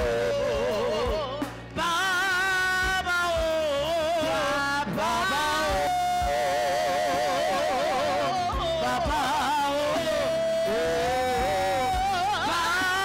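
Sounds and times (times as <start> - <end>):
keyboard backing: 0.0 - 13.0
woman singing with vibrato: 0.0 - 13.0.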